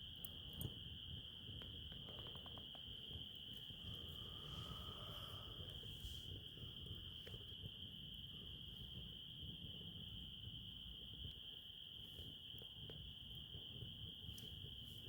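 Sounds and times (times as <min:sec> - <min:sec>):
crickets trilling: 0:00.0 - 0:15.0
wood fire crackling: 0:00.0 - 0:15.0.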